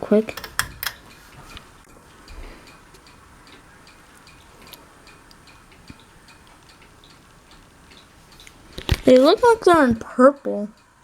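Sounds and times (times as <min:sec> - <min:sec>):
ceiling fan running: 0:00.0 - 0:11.0
faint regular ticking: 0:00.0 - 0:11.0.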